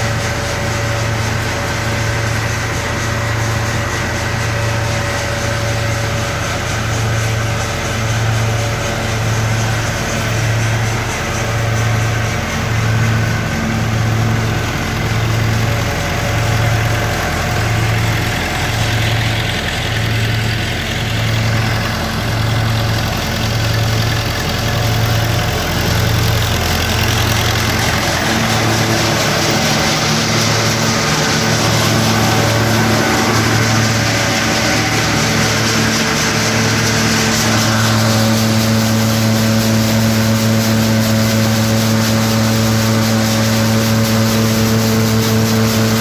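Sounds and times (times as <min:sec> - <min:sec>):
machine engine humming: 0:00.0 - 0:46.0.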